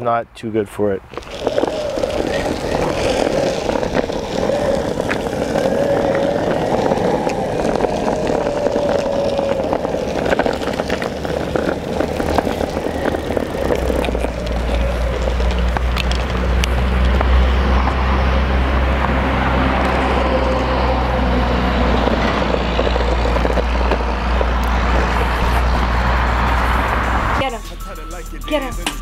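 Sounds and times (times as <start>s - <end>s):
deeper rumble: 1.0s - 28.8s
skateboard wheels rolling on gritty path: 1.1s - 27.5s.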